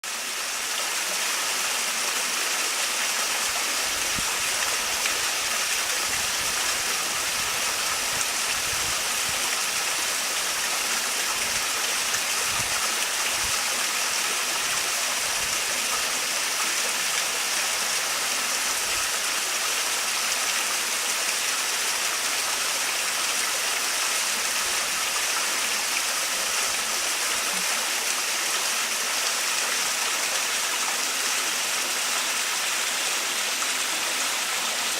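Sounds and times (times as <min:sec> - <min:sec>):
small waterfall splashing: 0:00.0 - 0:34.9.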